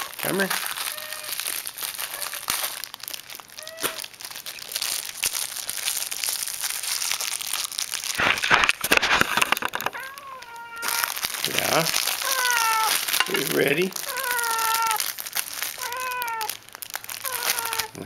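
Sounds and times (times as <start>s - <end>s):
plastic wrapper crinkling: 0.0s - 18.0s.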